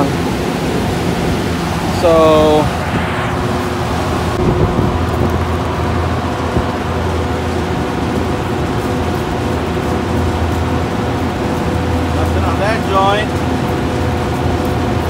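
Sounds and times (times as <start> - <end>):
condenser fans rushing air: 0.0 - 15.0
low motor hum: 0.0 - 15.0.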